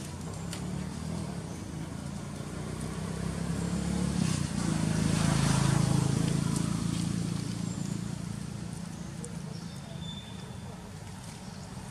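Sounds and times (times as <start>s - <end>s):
passing vehicle engine: 0.0s - 10.0s.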